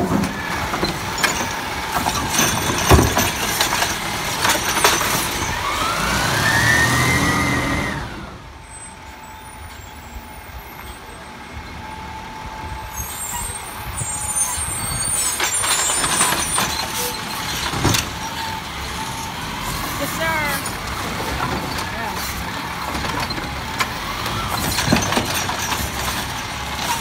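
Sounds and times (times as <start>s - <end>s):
garbage truck diesel engine revving: 0.0s - 8.6s, 13.2s - 27.0s.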